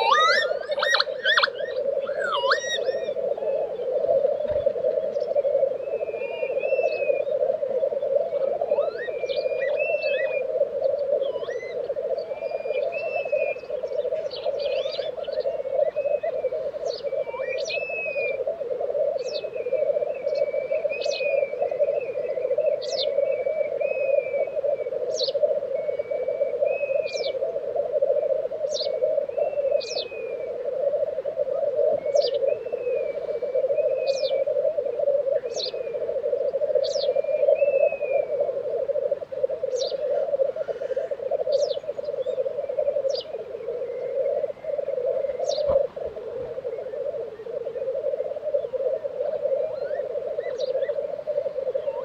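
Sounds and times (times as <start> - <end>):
bubbling grouse chorus: 0.0 - 52.0
higher bird calls: 0.0 - 52.0.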